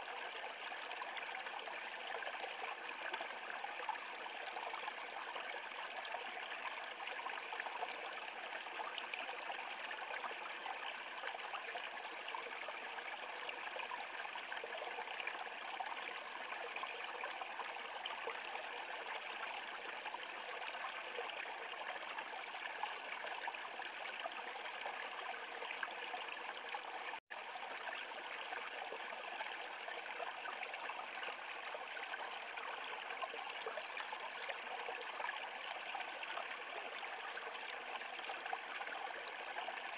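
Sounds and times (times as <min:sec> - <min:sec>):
stream splashing and babbling: 0:00.0 - 0:39.9.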